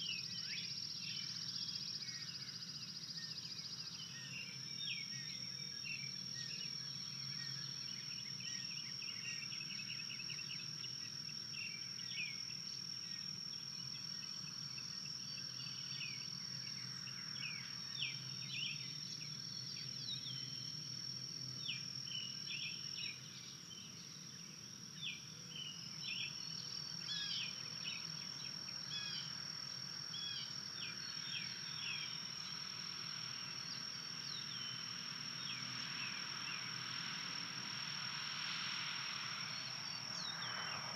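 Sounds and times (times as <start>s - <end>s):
high-pitched insect trill: 0.0s - 40.9s.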